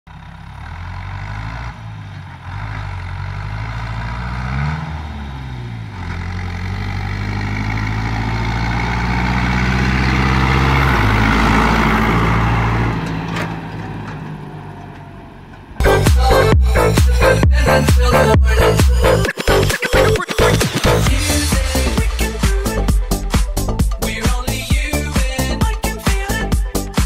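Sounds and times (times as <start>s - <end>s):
tractor diesel engine running: 0.1s - 27.0s.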